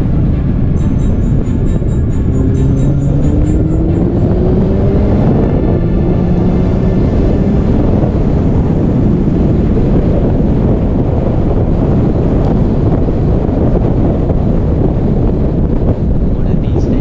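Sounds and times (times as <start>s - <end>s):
motorcycle engine: 0.0s - 17.0s
wind noise on microphone: 0.0s - 17.0s.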